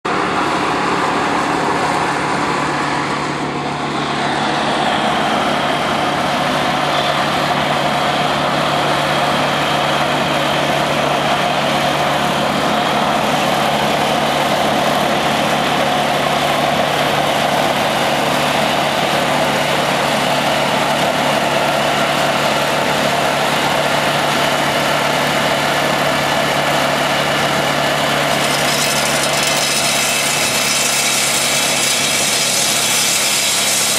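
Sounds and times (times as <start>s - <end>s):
concrete saw cutting asphalt: 0.1s - 33.9s.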